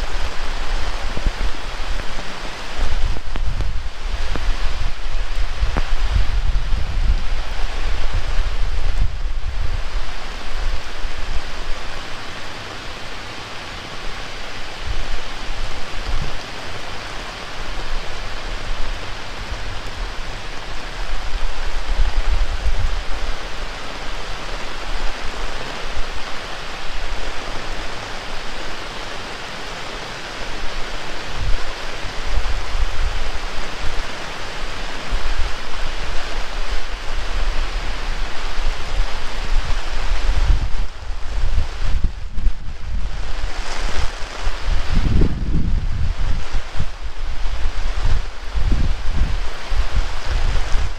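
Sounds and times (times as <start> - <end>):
wind buffeting microphone: 0.0 - 12.4, 14.0 - 29.1, 30.3 - 50.9
heavy rain pouring: 0.0 - 50.9.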